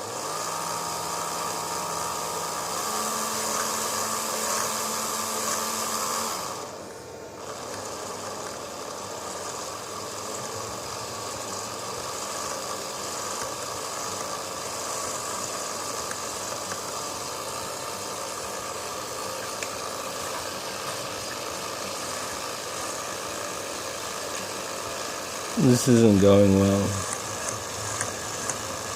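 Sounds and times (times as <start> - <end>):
mini lathe running: 0.0 - 28.9.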